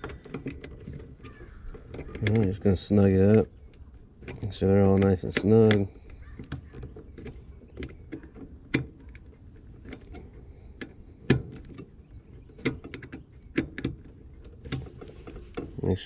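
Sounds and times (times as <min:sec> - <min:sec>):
wire connections clicking: 0:00.0 - 0:16.0.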